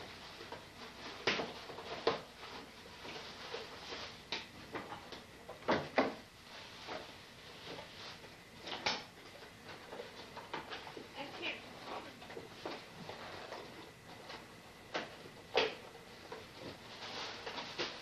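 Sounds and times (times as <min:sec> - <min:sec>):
paper boxes rustling: 0:00.0 - 0:18.0.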